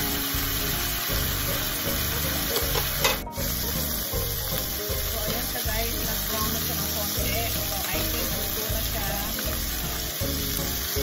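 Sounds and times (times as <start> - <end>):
background music with steady beat: 0.0 - 11.0
chicken sizzling in oil: 0.0 - 11.0.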